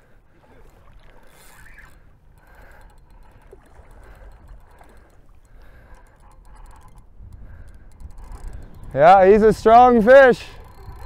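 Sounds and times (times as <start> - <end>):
river water lapping: 0.0 - 11.0
wind rumble on microphone: 0.0 - 11.0.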